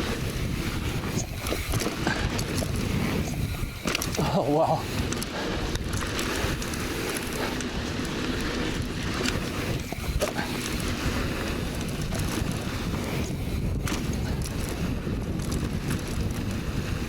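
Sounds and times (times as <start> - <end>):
bike rattling: 0.0 - 17.0
tyres roaring on dirt: 0.0 - 17.0
wind noise on microphone: 0.0 - 17.0.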